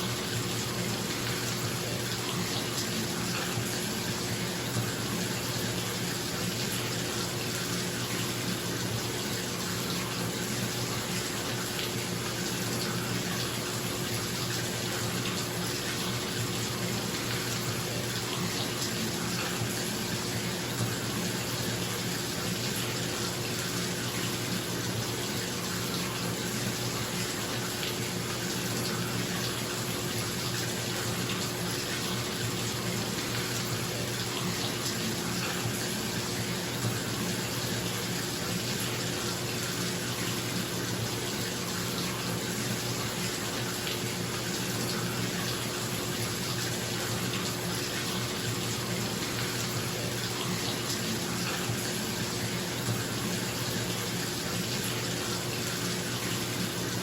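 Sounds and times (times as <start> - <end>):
water pouring into bathtub: 0.0 - 57.0.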